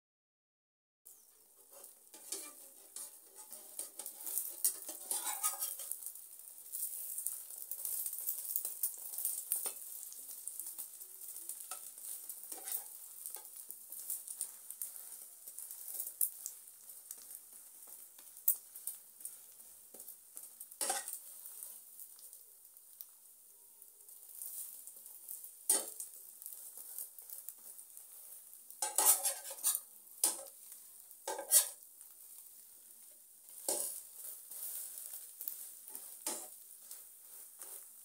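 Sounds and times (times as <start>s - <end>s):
omelette sizzling in frying pan: 1.1s - 38.0s
spatula scraping and tapping pan: 1.3s - 22.3s, 24.2s - 38.0s.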